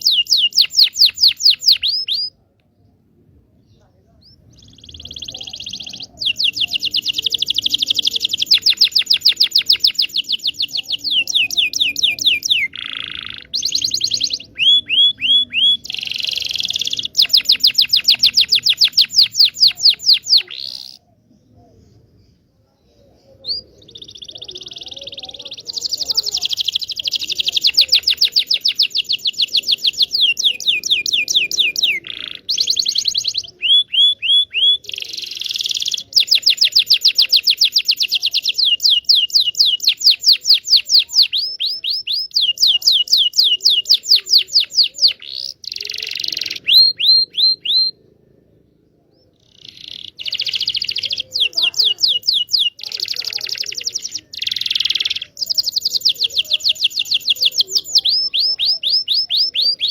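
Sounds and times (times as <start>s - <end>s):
canary singing trills: 0.0s - 2.4s, 3.6s - 48.4s, 49.0s - 59.9s.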